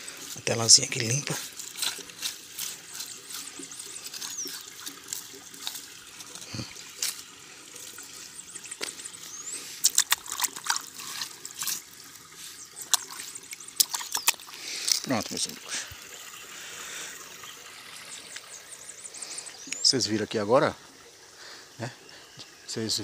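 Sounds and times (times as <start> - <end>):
water splashing: 0.0 - 20.0
water trickling over mesh screen: 0.0 - 23.0.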